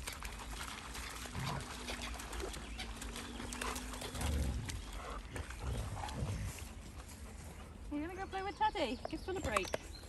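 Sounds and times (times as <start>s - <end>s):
dogs splashing in shallow water: 0.0s - 10.0s
paws on wet gravel: 0.0s - 10.0s.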